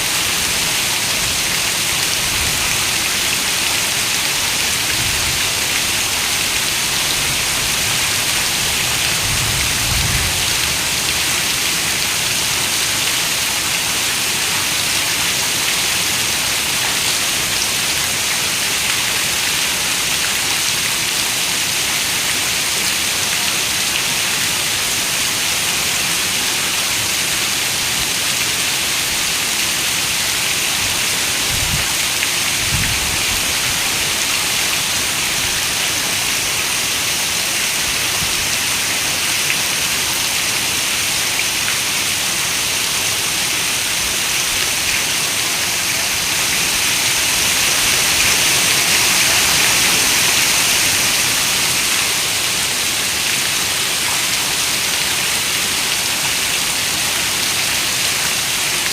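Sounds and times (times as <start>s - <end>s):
heavy rain on a window: 0.1s - 58.9s.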